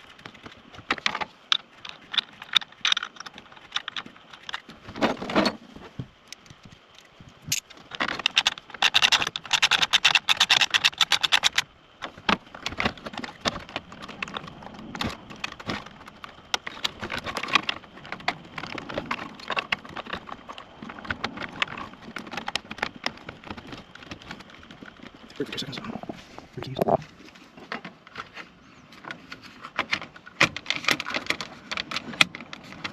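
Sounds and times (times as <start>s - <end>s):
car radio parts clicking and rattling: 0.0s - 32.9s.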